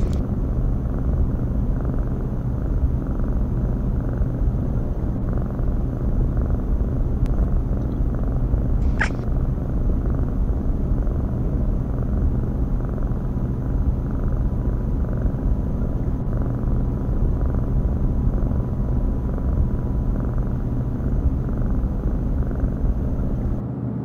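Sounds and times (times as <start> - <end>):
cat purring: 0.0 - 23.6.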